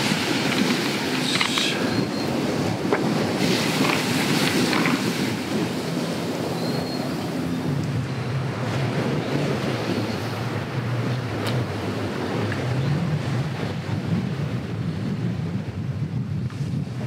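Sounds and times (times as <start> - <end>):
sea waves washing: 0.0 - 15.7.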